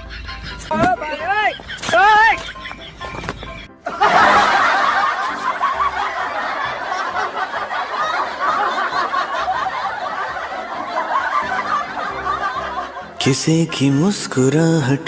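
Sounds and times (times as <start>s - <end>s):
many people laughing: 0.0s - 15.0s.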